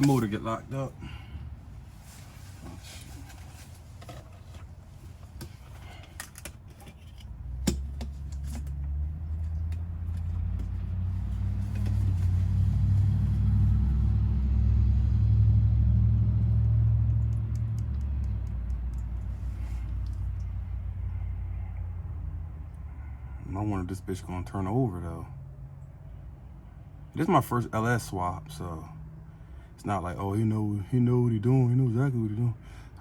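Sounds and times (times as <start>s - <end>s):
low engine rumble: 0.0s - 33.0s.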